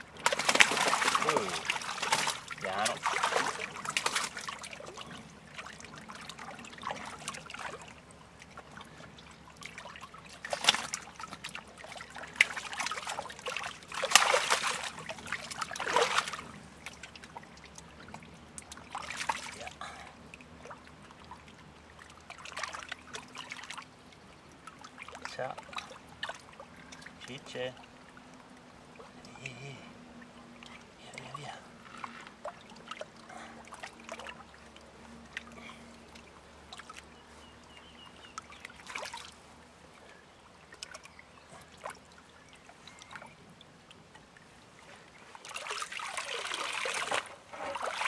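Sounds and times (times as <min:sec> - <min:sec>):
fish splashing in water: 0:00.0 - 0:27.2, 0:31.8 - 0:37.1, 0:37.8 - 0:39.7, 0:40.5 - 0:44.3, 0:44.9 - 0:48.0
water trickling and lapping: 0:00.0 - 0:48.0.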